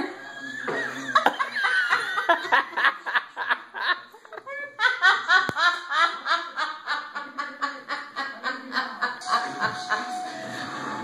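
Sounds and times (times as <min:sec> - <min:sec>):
hearty laughter: 0:00.7 - 0:11.0.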